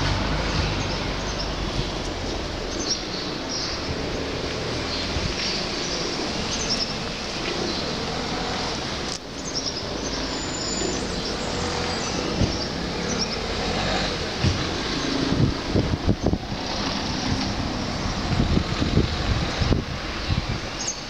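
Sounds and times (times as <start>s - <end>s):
wind blowing across microphone: 0.0s - 21.0s.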